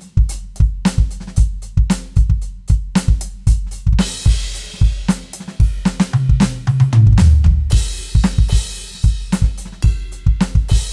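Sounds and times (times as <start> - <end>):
electronic drum groove: 0.0 - 10.9
tom fill: 0.0 - 10.9.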